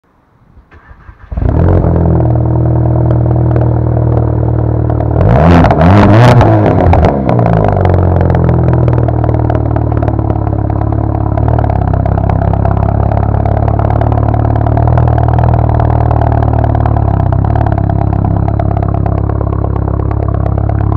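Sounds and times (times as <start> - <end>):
engine revving with crackles: 0.8 - 20.9
car exhaust idling loudly: 1.8 - 20.9.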